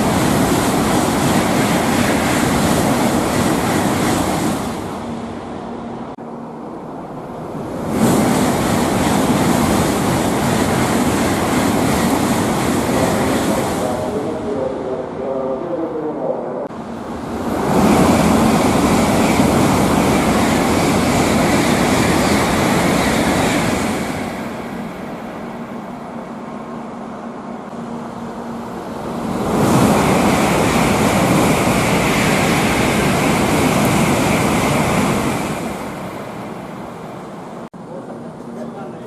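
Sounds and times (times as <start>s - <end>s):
high-speed trains rushing past: 0.0s - 39.0s.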